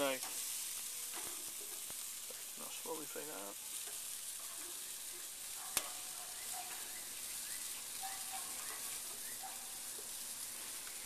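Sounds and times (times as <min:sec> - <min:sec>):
food sizzling on a grill: 0:00.0 - 0:11.0.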